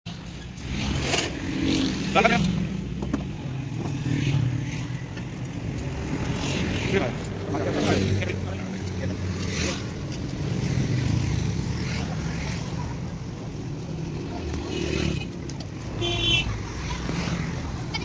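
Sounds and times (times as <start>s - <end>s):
road traffic rumble: 0.1s - 18.0s.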